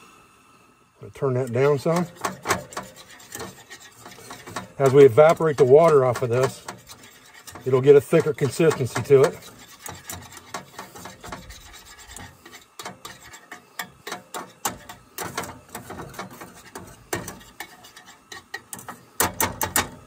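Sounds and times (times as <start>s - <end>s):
whisk scraping a steel skillet: 1.0s - 20.0s.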